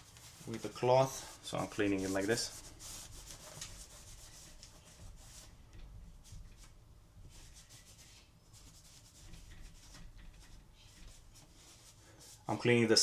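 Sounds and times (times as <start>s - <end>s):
cloth rubbing strokes: 0.0s - 12.8s.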